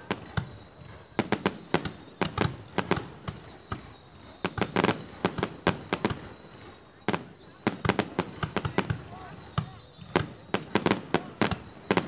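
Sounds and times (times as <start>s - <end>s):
firework rockets banging: 0.0s - 12.0s.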